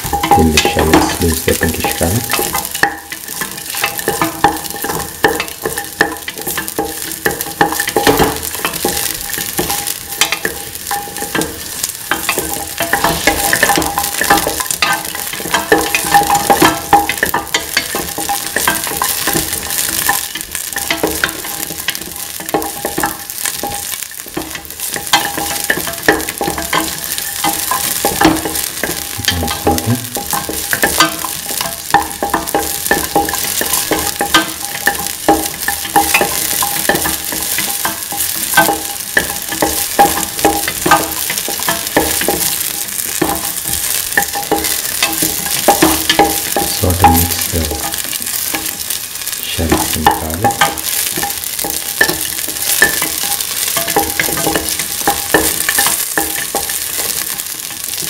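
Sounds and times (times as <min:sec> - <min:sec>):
shallots and garlic sizzling in pan: 0:00.0 - 0:58.0.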